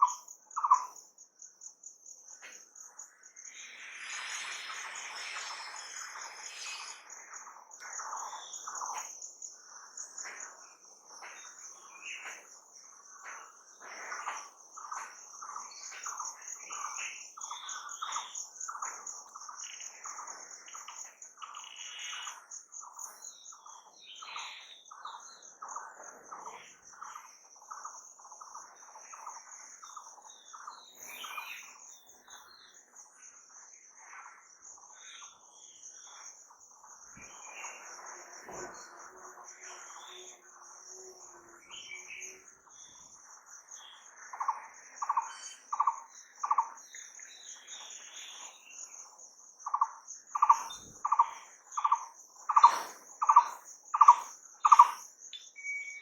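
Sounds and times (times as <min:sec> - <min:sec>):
high-pitched insect trill: 0:00.0 - 0:56.0
birds chirping: 0:02.3 - 0:32.9, 0:41.7 - 0:56.0.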